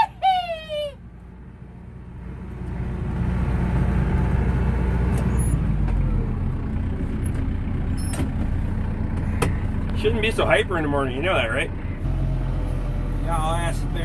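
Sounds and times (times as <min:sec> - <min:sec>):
utility vehicle engine running: 0:00.0 - 0:14.0.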